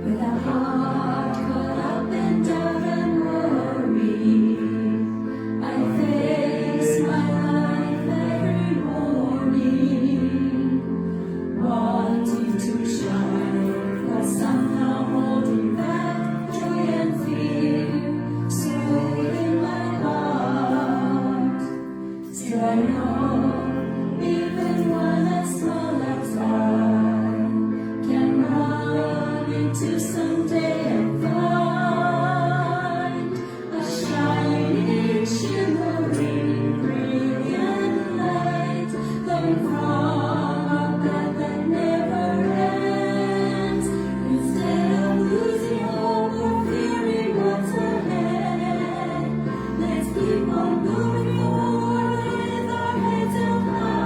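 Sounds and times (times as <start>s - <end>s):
group of voices singing: 0.0s - 54.0s.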